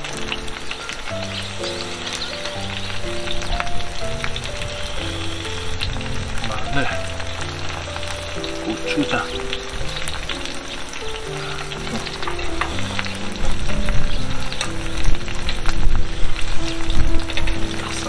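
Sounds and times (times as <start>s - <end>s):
background music of held notes: 0.0s - 18.0s
meat sizzling and crackling: 0.0s - 18.0s.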